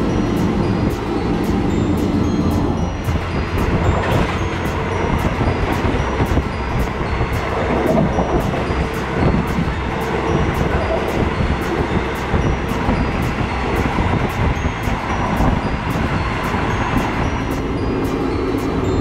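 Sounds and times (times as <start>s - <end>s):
train carriage rumbling on rails: 0.0s - 19.0s.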